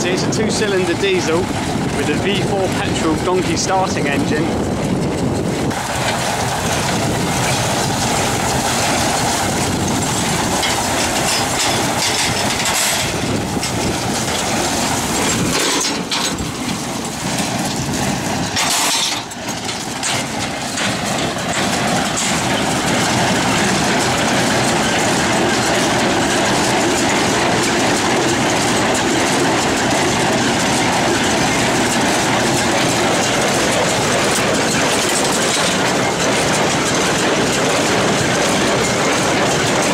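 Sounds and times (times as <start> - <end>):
farm machinery rattling: 0.0 - 39.9.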